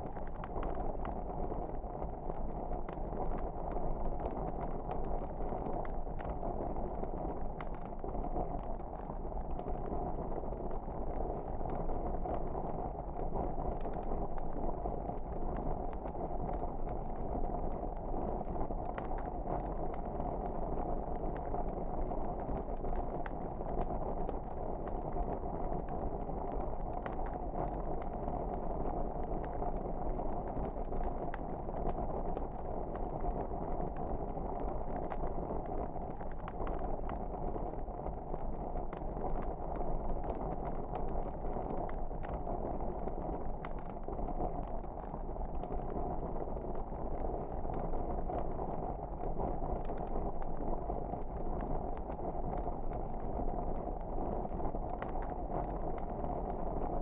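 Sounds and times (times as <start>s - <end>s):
fire crackles and pops: 0.0s - 57.0s.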